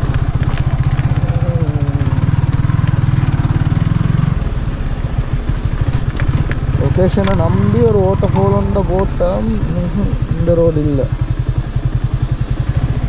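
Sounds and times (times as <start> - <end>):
vehicle engine throbbing: 0.0 - 13.0.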